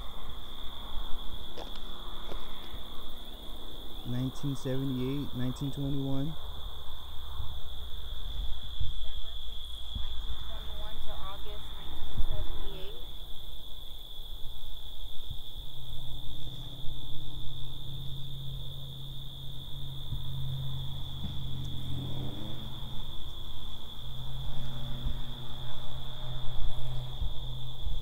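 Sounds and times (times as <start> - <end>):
crickets chirping: 0.0 - 28.0
low steady hum: 0.0 - 28.0.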